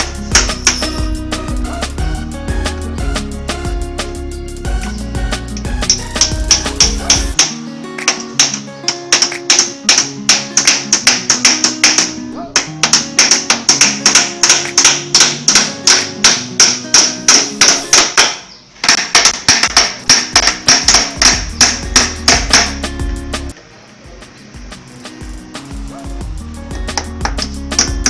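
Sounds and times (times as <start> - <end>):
fast plucked guitar tune: 0.0 - 18.0, 20.0 - 28.0.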